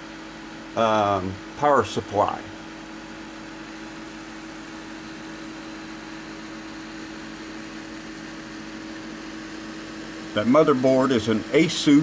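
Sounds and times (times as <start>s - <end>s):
computer cooling fans whirring: 0.0s - 12.0s.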